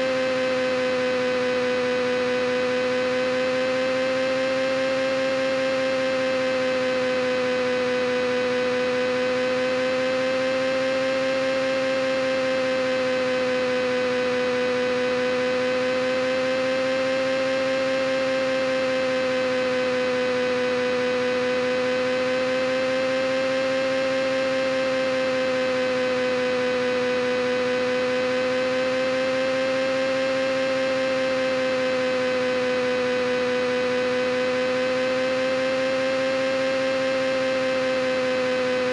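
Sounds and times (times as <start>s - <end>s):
wavering electrical hum: 0.0s - 38.9s.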